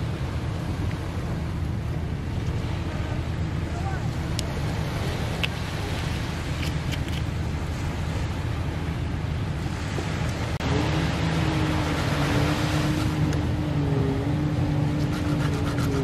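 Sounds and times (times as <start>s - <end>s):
engine hum: 0.0s - 16.0s
surf rushing: 0.0s - 16.0s
wind: 0.0s - 16.0s.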